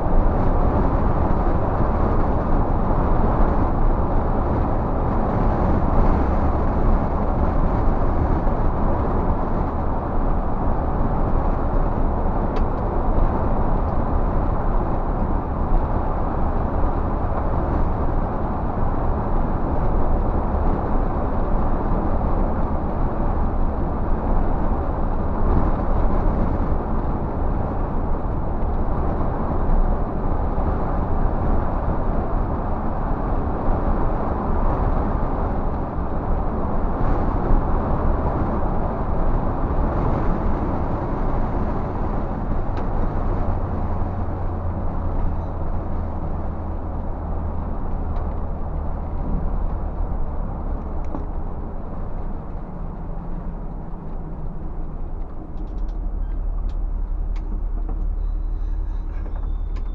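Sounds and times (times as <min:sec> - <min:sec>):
diesel engine drone: 0:00.0 - 0:59.9
tyre and road noise: 0:00.0 - 0:59.9.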